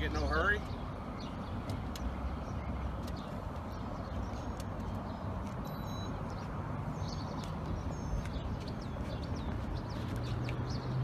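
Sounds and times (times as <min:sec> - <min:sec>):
low rumble of outdoor noise: 0:00.0 - 0:11.0
small birds chirping: 0:00.0 - 0:11.0.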